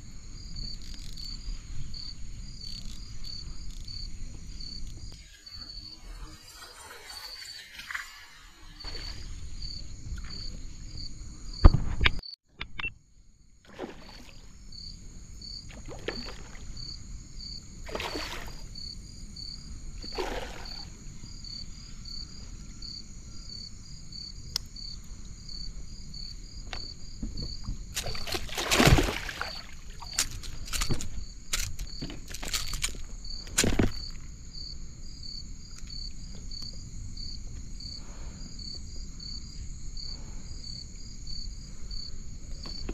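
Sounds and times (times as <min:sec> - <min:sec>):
insect chirping: 0:00.0 - 0:42.9.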